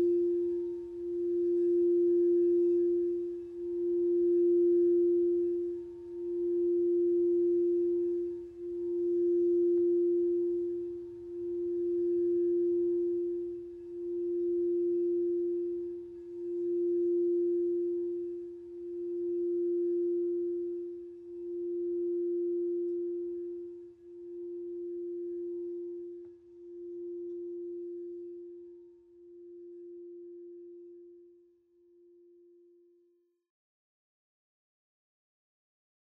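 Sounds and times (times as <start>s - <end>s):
singing bowl held tone: 0.0s - 33.1s.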